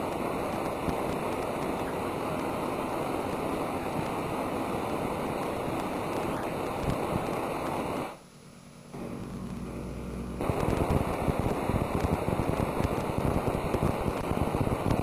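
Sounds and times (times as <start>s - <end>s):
steady low hum: 0.0s - 15.0s
tesla coil crackling buzz: 0.0s - 15.0s.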